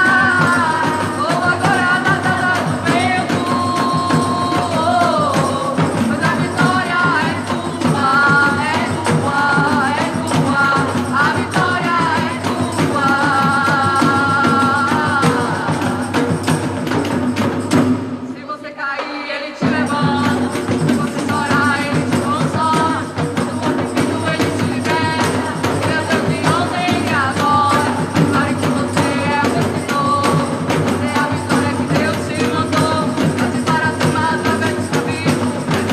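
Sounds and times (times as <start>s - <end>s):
tambourine-like percussion: 0.0s - 35.9s.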